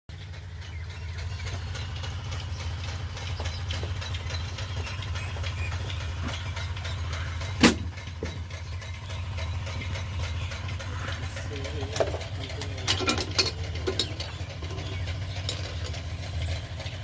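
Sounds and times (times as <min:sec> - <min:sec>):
diesel engine idling: 0:00.1 - 0:17.0.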